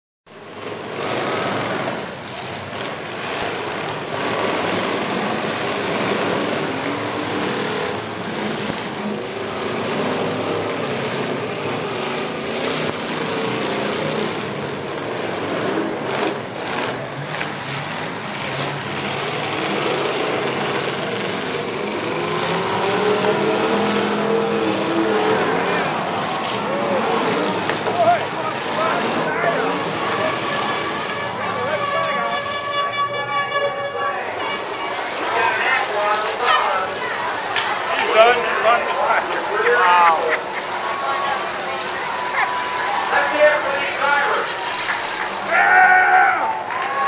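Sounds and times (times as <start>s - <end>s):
car engines revving: 0.2s - 47.0s
cars crashing: 0.3s - 47.0s.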